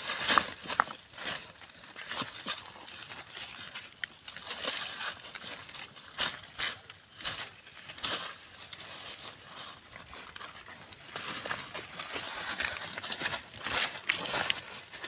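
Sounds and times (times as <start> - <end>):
dry leaves and gravel crunching: 0.0 - 15.0.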